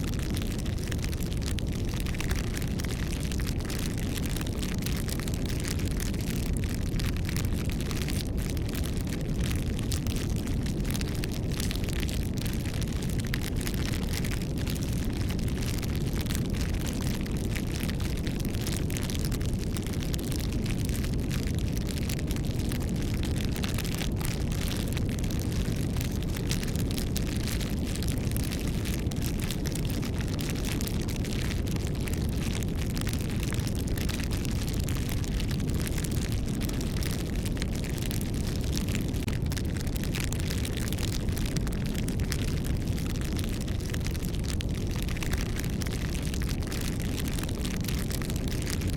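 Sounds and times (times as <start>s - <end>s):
bonfire crackling: 0.0s - 48.9s.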